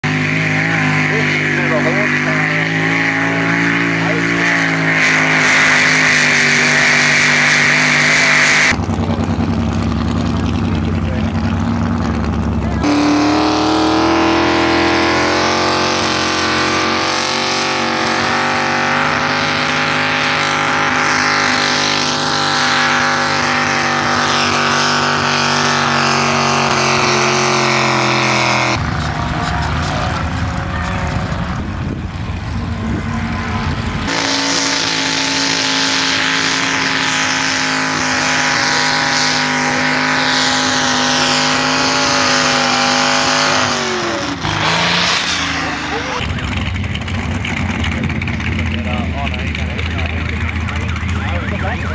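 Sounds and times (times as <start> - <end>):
tractor engines running under load: 0.0 - 51.9.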